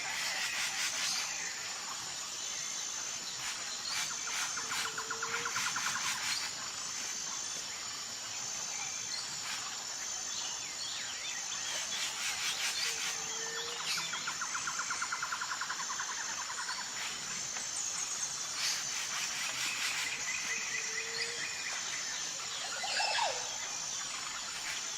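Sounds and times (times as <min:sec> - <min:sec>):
chorus of insects: 0:00.0 - 0:24.9.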